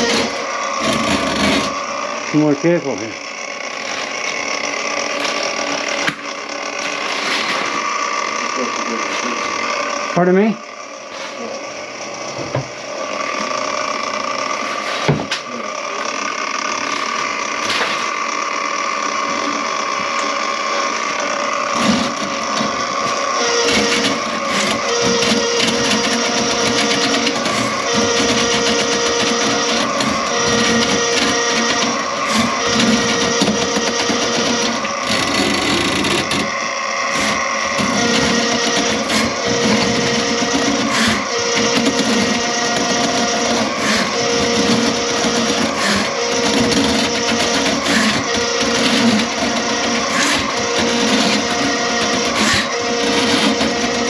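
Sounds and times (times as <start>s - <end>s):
drain-cleaning machine whirring: 0.0s - 54.0s.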